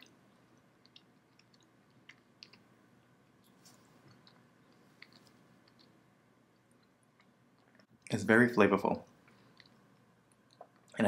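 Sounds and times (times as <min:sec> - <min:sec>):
mouth clicks and smacks chewing: 0:00.0 - 0:08.0, 0:09.2 - 0:11.0.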